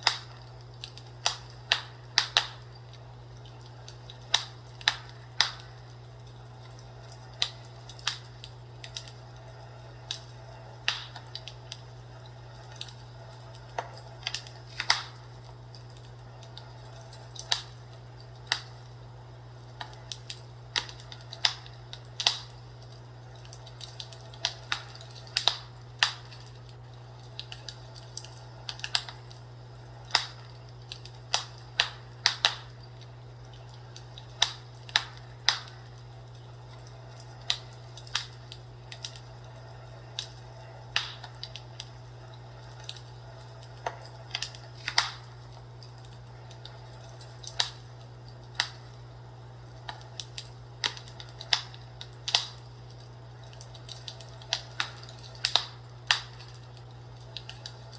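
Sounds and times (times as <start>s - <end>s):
steady low hum: 0.0s - 57.9s
wood fire crackling: 0.0s - 57.9s.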